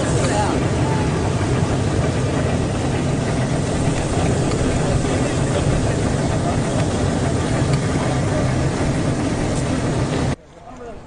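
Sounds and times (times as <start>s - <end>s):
rushing churning noise: 0.0s - 10.4s
low motor hum: 0.0s - 11.0s.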